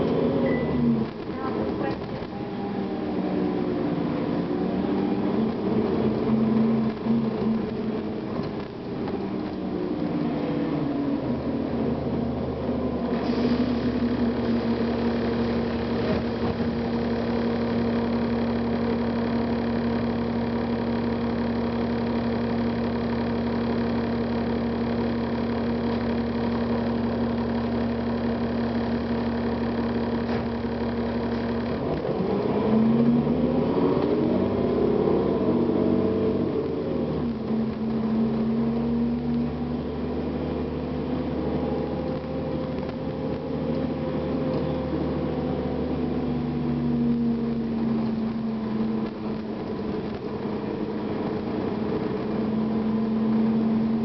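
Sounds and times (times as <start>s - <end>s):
bus diesel engine idling: 0.0s - 10.3s, 11.0s - 32.1s, 40.5s - 54.0s.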